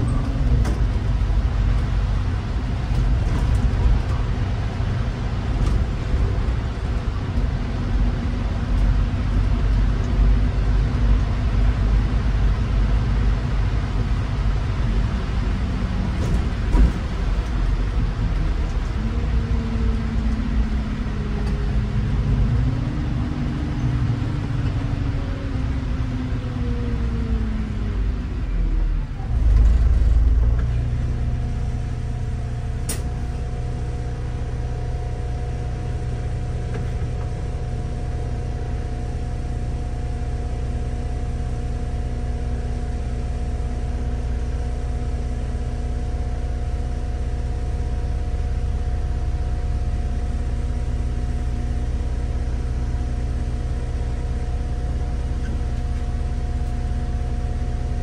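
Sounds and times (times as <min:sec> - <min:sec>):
bus engine and road rumble: 0:00.0 - 0:58.0
drivetrain whine: 0:00.0 - 0:58.0.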